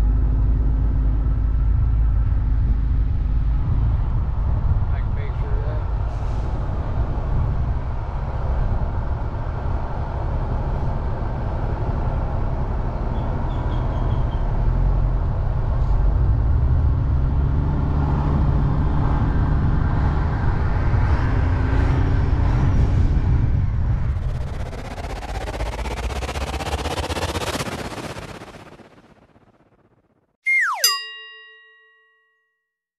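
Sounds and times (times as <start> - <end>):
vehicle engine rumbling: 0.0 - 30.2.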